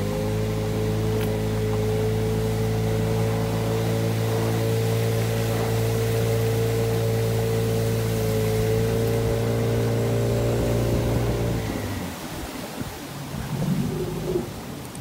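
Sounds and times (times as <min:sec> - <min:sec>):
outboard motor running: 0:00.0 - 0:13.6.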